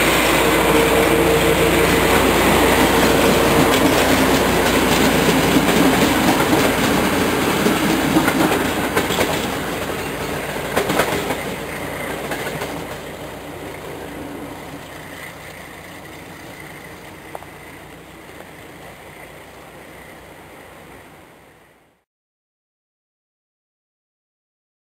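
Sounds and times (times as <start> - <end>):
train wheels clattering over rail joints: 0.0 - 20.0.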